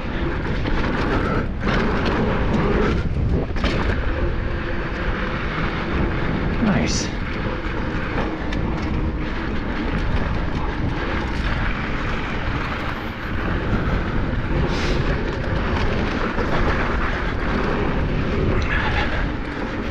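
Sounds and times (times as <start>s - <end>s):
bike rattles and clicks: 0.0s - 19.9s
bike tyres rumbling on dirt: 0.0s - 19.9s
wind buffeting microphone: 0.0s - 19.9s.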